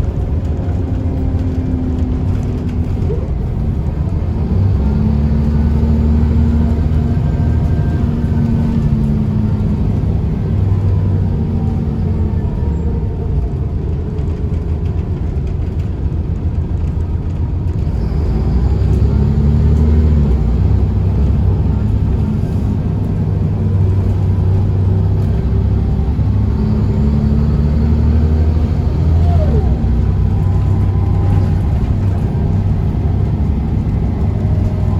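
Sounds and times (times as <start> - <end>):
bus diesel engine running: 0.0 - 34.9.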